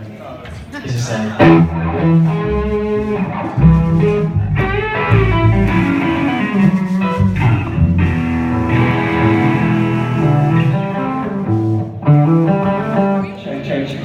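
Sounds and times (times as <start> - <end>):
low bass notes: 1.4 - 13.3
bluesy guitar riff: 1.4 - 13.4.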